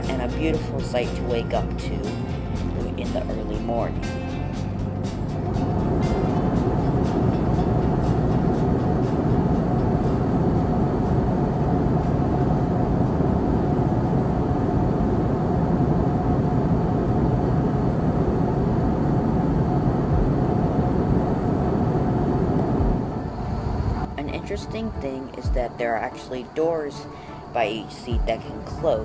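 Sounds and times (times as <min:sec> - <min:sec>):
jet engine and airflow rush: 0:00.0 - 0:29.0.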